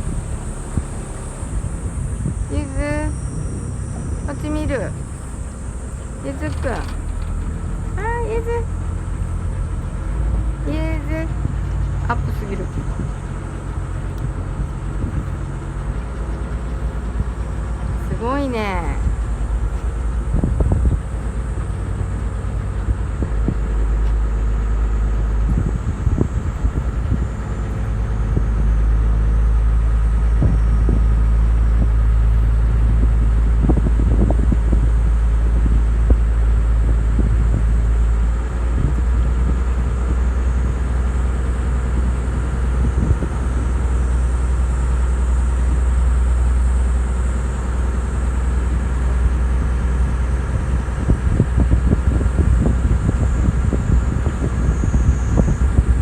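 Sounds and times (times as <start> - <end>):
boat engine rumbling: 0.0 - 56.0
wind buffeting microphone: 0.0 - 56.0.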